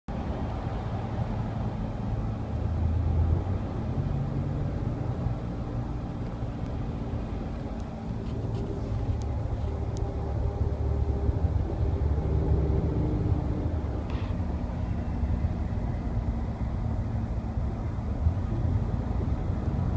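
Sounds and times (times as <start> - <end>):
car cabin humming drone: 0.1 - 19.9.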